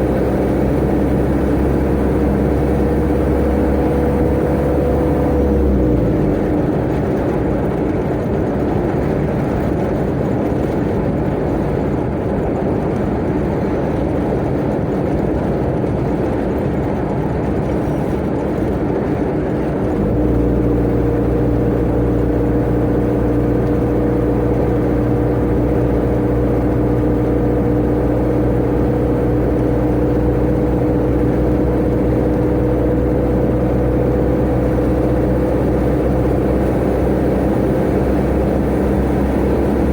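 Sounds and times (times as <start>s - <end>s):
road and wind noise: 0.0s - 39.9s
truck engine drone: 0.0s - 39.9s.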